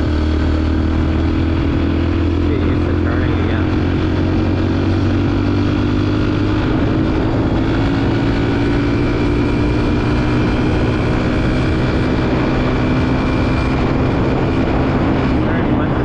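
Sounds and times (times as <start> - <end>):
constant rushing noise: 0.0 - 16.0
dirt bike engine running: 0.0 - 16.0.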